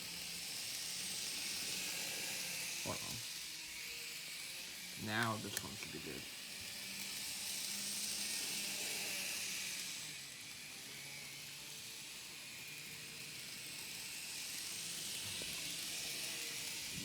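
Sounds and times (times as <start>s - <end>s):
model train humming: 0.0s - 17.0s.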